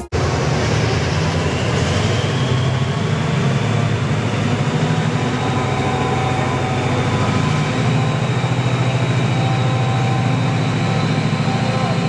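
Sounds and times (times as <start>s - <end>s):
locomotive engine working hard: 0.0s - 12.0s.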